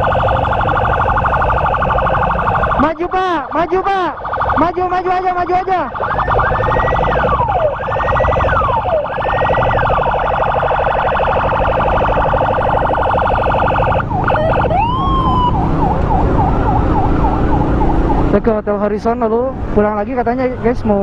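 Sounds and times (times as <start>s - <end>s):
electronic siren wailing and yelping: 0.0s - 18.4s.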